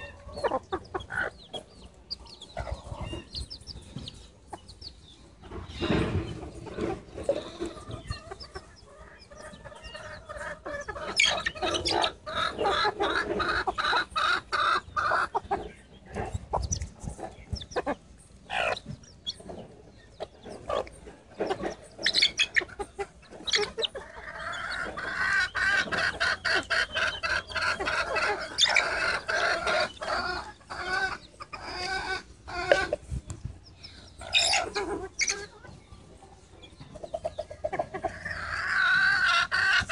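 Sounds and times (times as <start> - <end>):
beaks pecking on concrete: 0.0 - 35.8
chickens clucking: 0.0 - 39.9.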